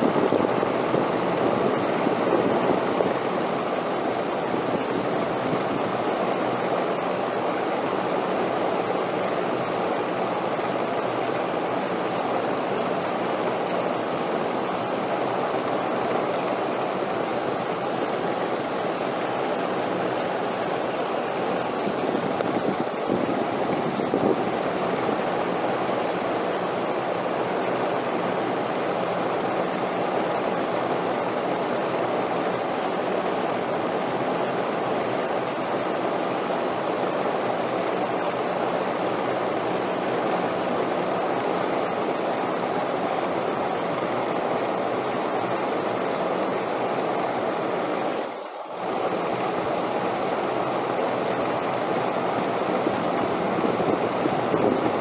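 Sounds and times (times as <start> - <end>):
steady wind: 0.0 - 55.0.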